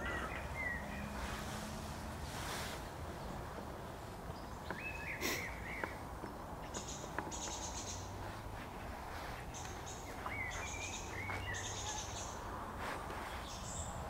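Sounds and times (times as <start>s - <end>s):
birds chirping trills: 0.0s - 14.0s.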